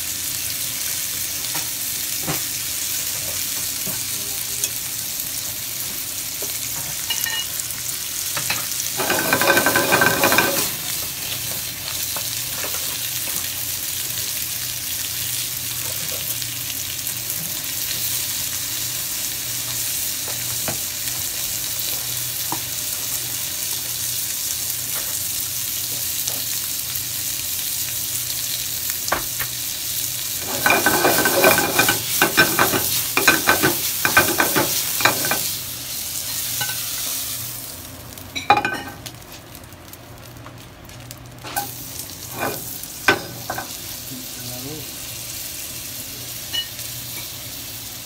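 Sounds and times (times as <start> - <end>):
shrimp sizzling in a frying pan: 0.0 - 48.0.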